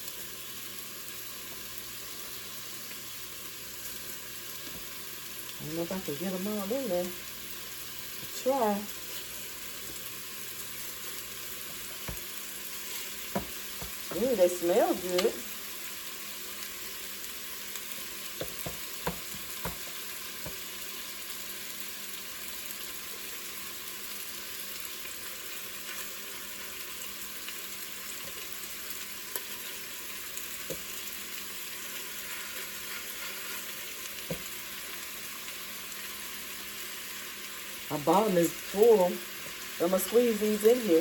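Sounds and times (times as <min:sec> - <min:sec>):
meatballs sizzling in oil: 0:00.0 - 0:41.0.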